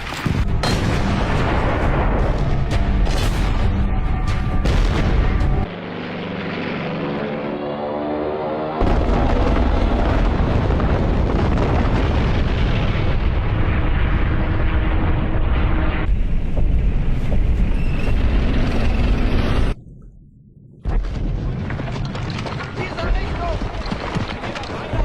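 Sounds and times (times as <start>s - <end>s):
rapid explosions and impacts: 0.0s - 5.7s, 8.8s - 25.0s
deep battle rumble: 0.2s - 5.7s, 8.8s - 25.0s.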